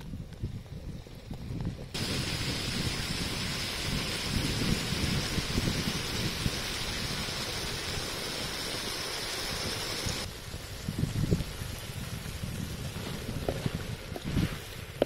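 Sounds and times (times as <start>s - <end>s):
food sizzling in a wok: 2.0s - 14.9s.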